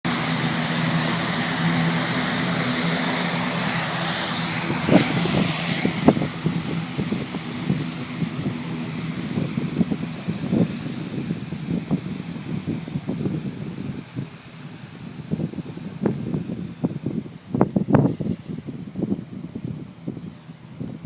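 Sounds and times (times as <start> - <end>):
turboprop propeller drone: 0.0 - 21.0
wind bumps on microphone: 2.2 - 21.0.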